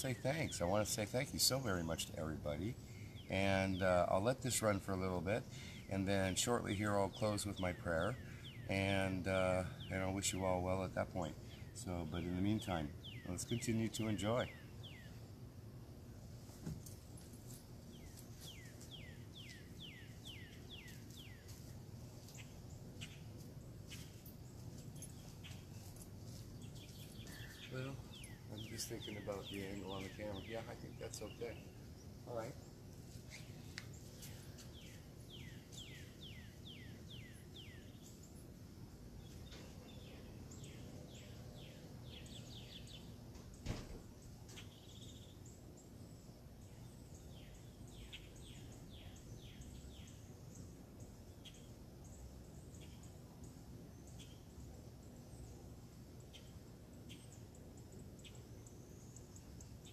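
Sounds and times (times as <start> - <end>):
faint outdoor background hum: 0.0 - 59.9.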